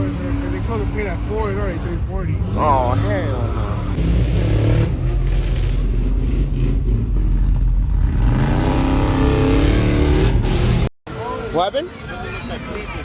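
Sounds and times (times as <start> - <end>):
vehicle engine accelerating: 0.0 - 10.9.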